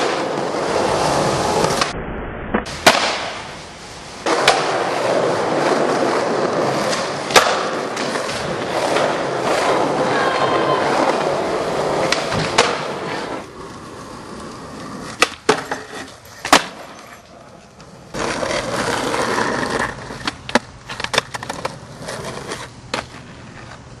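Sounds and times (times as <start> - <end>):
skateboard wheels rolling on pavement: 0.0 - 2.0, 2.6 - 24.0
skateboard clacking on ground: 4.2 - 24.0.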